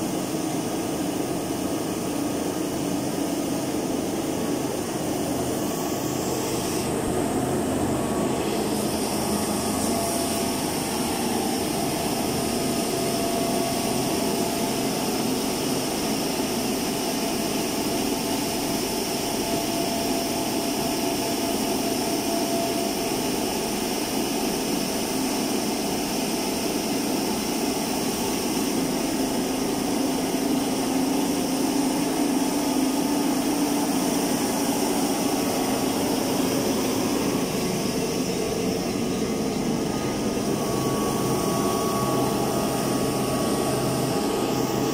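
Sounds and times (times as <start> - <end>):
sanding machine hum and hiss: 0.0 - 44.9.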